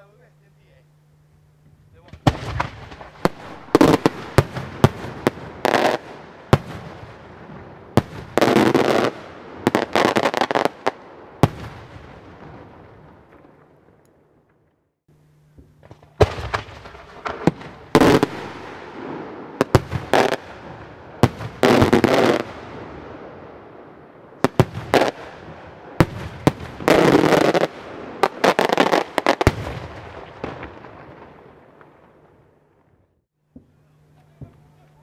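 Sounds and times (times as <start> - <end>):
crackling firework salvos: 0.0 - 35.0.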